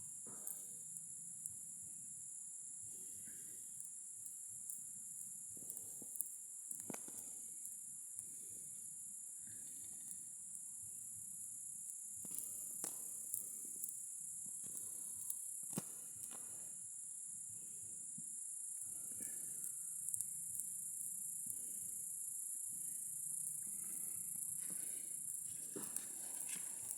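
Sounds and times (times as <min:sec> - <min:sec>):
insects chirring: 0:00.0 - 0:26.9.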